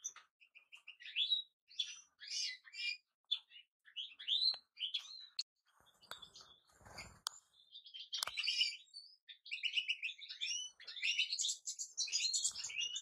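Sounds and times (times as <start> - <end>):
finch twittering and chirping: 0.0 - 13.0.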